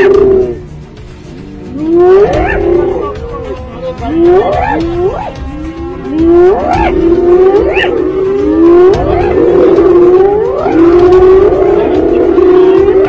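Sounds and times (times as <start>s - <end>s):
hyena whooping: 1.7s - 13.0s.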